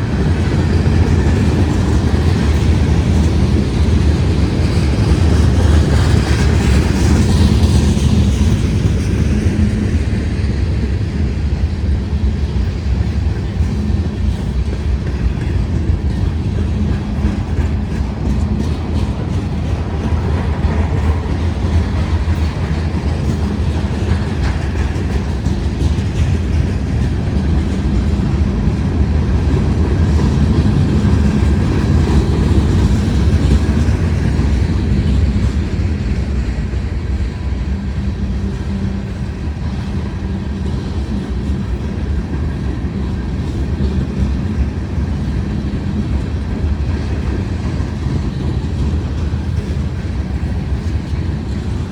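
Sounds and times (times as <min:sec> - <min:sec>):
freight train cars rolling: 0:00.0 - 0:51.9.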